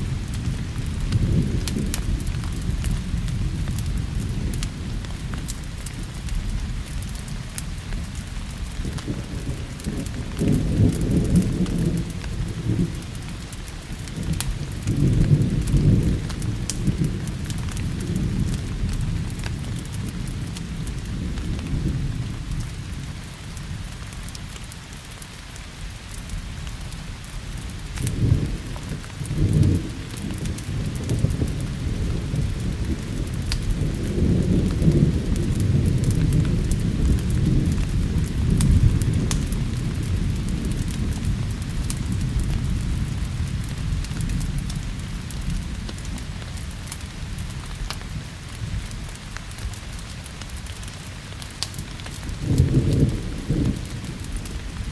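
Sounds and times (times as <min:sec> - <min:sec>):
thunder rumbling: 0:00.0 - 0:23.4, 0:27.2 - 0:54.9
steady rain: 0:00.0 - 0:54.9.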